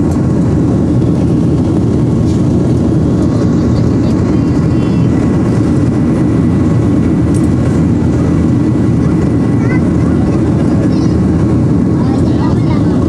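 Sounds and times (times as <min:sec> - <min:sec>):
jet cabin engine roar: 0:00.0 - 0:13.0.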